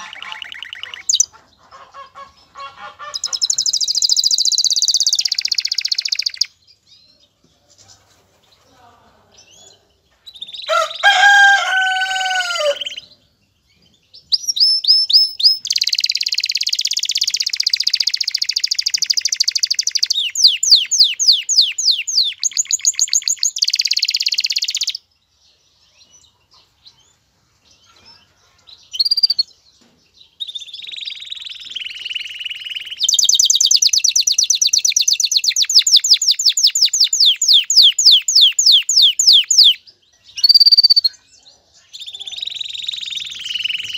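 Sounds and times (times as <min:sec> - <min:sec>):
canary singing trills: 0:00.0 - 0:07.4, 0:09.3 - 0:43.9.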